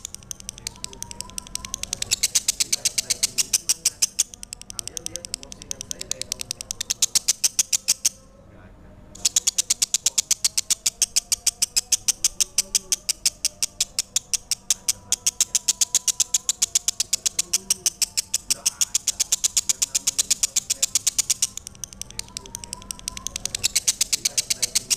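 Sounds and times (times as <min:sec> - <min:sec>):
lovebird chattering trill: 0:00.0 - 0:08.2, 0:09.2 - 0:24.9.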